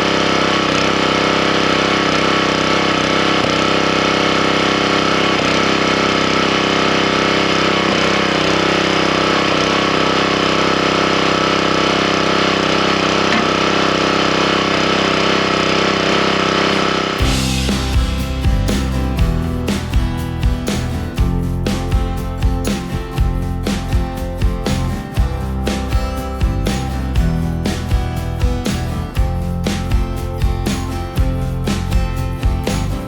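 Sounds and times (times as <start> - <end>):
guitar music: 0.0 - 33.0
small gasoline engine running: 0.0 - 33.0.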